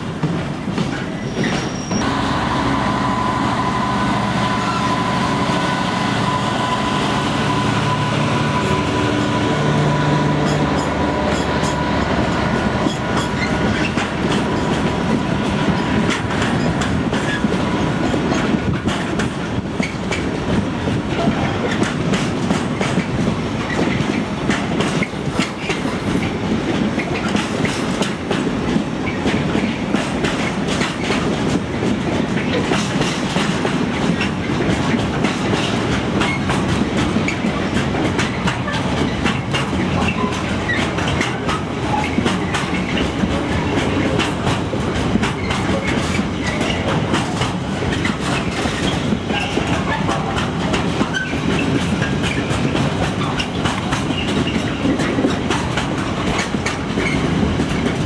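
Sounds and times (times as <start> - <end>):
freight train rumbling past: 0.0 - 58.0
wheels clicking over rail joints: 10.4 - 58.0.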